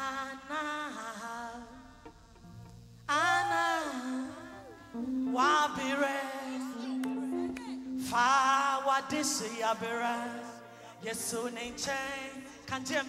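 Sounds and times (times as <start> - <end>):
person singing gospel: 0.0 - 2.2, 3.1 - 13.0.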